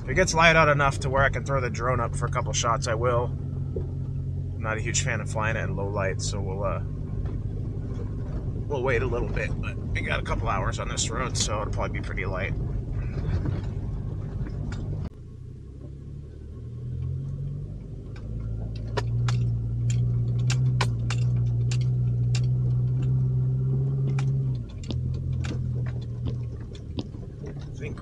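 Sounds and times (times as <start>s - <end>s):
truck engine hum: 0.0s - 28.0s.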